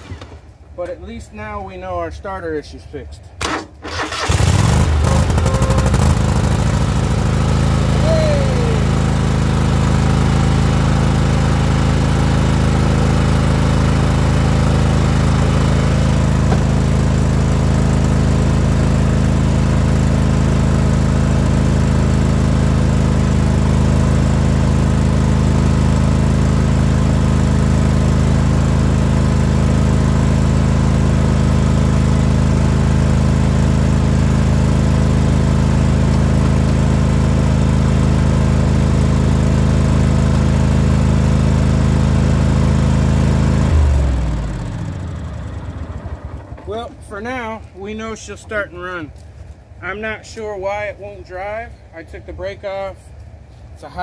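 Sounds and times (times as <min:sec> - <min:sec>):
engine winding down: 0:03.4 - 0:48.3
lawn tractor engine running: 0:03.4 - 0:50.4.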